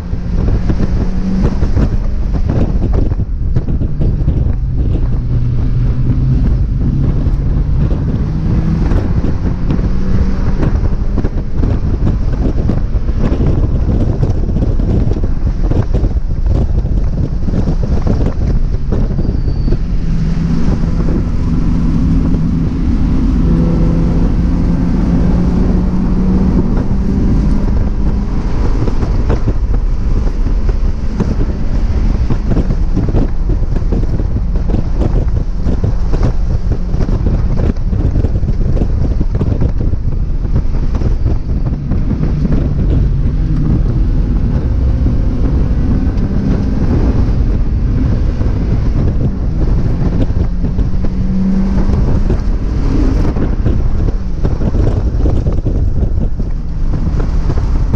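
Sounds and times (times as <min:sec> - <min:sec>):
car engine revving: 0:00.0 - 0:57.9
wind buffeting microphone: 0:00.0 - 0:57.9.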